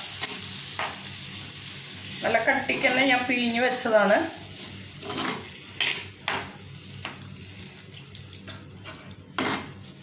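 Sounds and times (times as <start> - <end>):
soft sizzle: 0.0 - 10.0.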